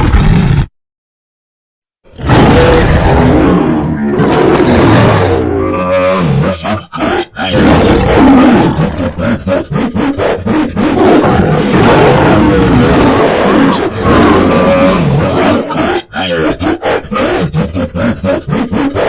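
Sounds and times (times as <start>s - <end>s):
big cat roars and snarls: 0.0s - 0.7s, 2.1s - 19.0s.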